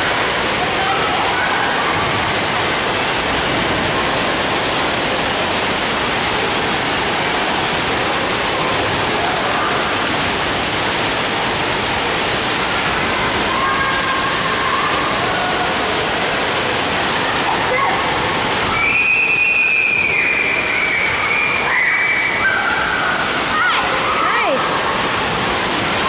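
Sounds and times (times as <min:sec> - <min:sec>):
waterfall pouring into pool: 0:00.0 - 0:26.0.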